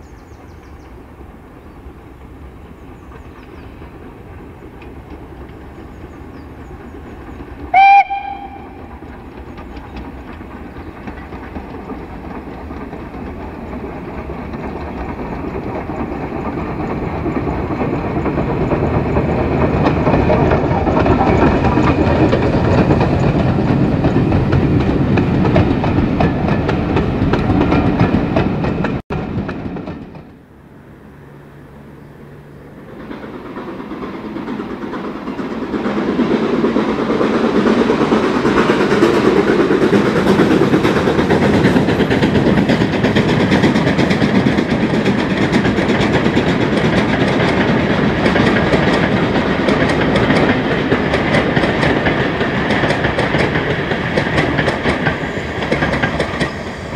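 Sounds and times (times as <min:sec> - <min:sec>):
steam train passing: 0:00.0 - 0:56.9
wheels clattering over rail joints: 0:03.0 - 0:30.6, 0:32.8 - 0:56.8.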